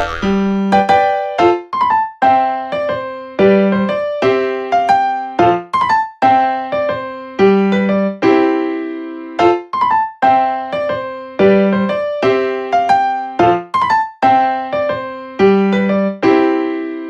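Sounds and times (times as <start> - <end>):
keyboard playing light melody: 0.0 - 17.0.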